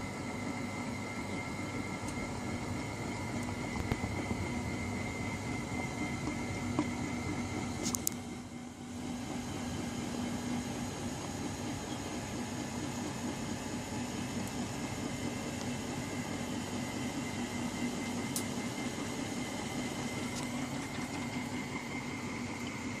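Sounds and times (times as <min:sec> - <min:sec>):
motor hum with high whine: 0:00.0 - 0:23.0
washing machine drum spinning: 0:00.0 - 0:23.0.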